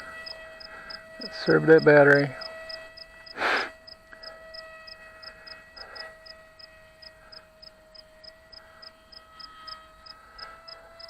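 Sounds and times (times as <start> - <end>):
electric motor whine: 0.0 - 11.0
faint regular ticks: 0.2 - 11.0.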